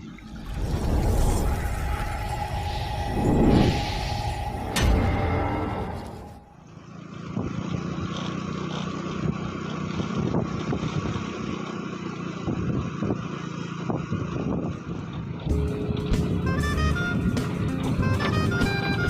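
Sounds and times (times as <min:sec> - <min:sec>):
engine running steadily: 0:02.0 - 0:19.0.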